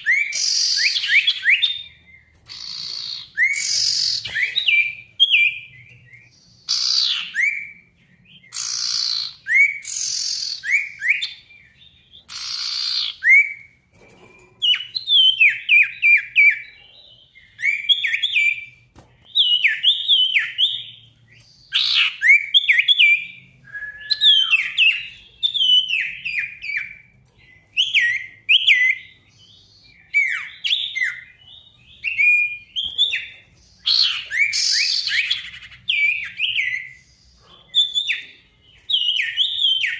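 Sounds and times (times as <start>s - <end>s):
songbird singing whistled notes: 0.0s - 13.8s, 14.7s - 39.9s.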